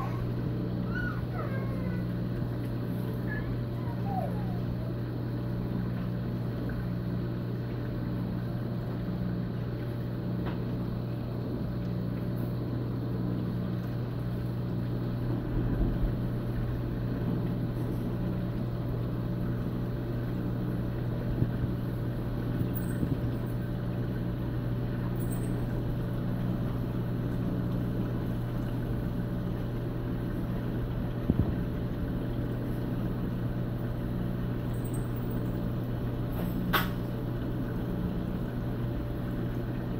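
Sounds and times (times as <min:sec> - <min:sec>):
aquarium pumps humming: 0:00.0 - 0:39.9.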